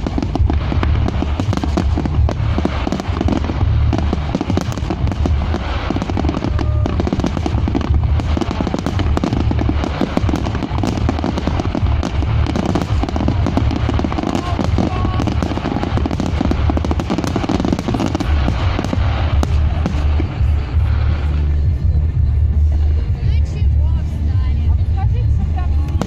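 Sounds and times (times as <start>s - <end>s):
fireworks cracks and pops: 0.0s - 23.0s, 25.8s - 26.0s
deep rumble of fireworks booms: 0.0s - 26.0s.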